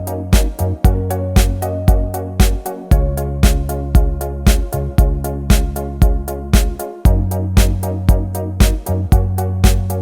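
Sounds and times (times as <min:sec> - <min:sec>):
kick drum hits: 0:00.0 - 0:09.9
electronic background music: 0:00.0 - 0:10.0
held bass notes: 0:00.0 - 0:10.0.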